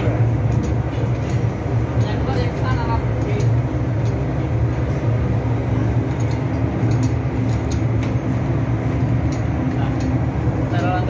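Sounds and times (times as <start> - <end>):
machinery drone: 0.0 - 11.0.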